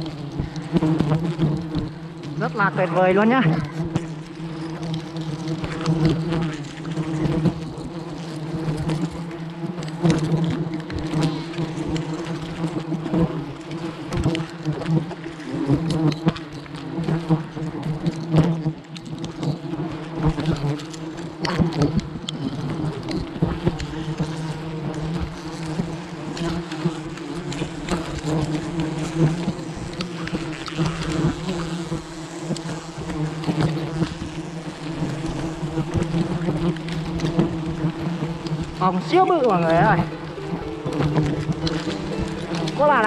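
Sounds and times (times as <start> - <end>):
bees buzzing drone: 0.0 - 43.0.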